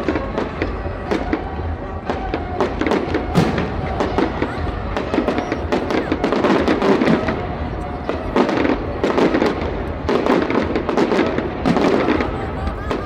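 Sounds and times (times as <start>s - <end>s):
fireworks cracking: 0.0s - 13.0s
music playing: 0.0s - 13.0s.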